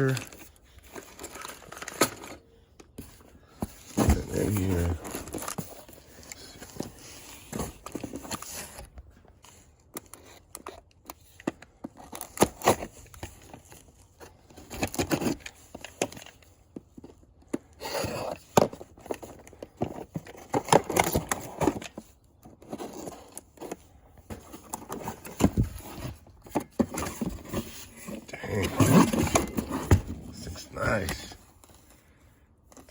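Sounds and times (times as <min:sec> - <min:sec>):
wrapping rustling and crinkling: 0:00.0 - 0:32.9.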